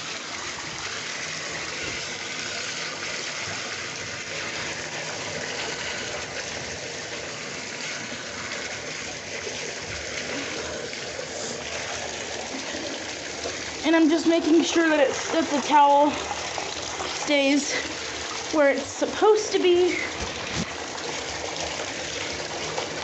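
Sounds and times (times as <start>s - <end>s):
water running into bathtub: 0.0s - 23.0s.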